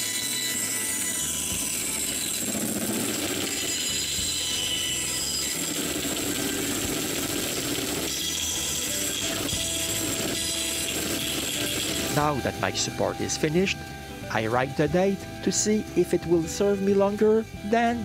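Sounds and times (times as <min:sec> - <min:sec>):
power tool cutting wood: 0:00.0 - 0:18.0.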